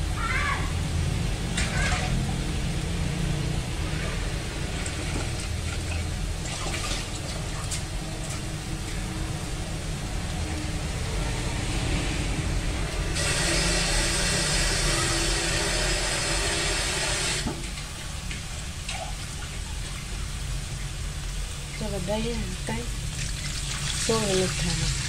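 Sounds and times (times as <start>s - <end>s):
meat sizzling in hot oil: 0.3s - 25.0s.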